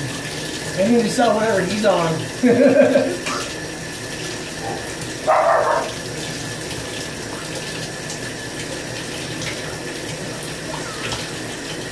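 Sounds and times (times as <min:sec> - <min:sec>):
shower water running into bathtub: 0:00.0 - 0:11.9.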